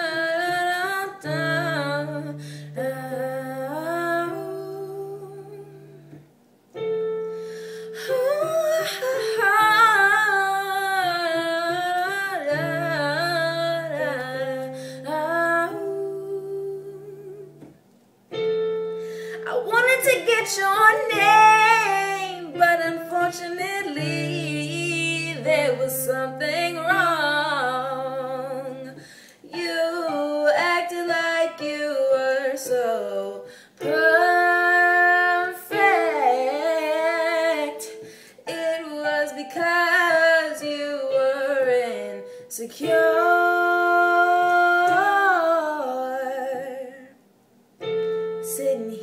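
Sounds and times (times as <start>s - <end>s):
girl singing a ballad: 0.0s - 6.2s, 6.8s - 49.0s
piano: 0.0s - 49.0s.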